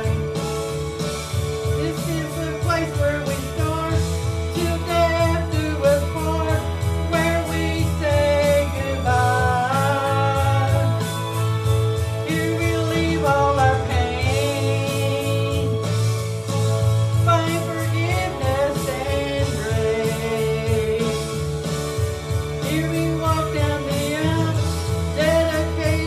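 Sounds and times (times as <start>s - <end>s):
instrumental accompaniment with bass: 0.0s - 26.0s.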